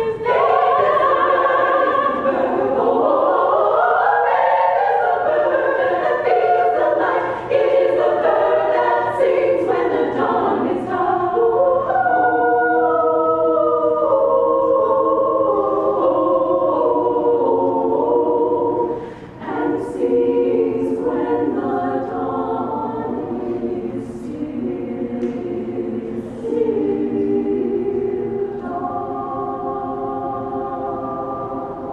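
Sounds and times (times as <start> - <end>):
choir singing in harmony: 0.0 - 31.9.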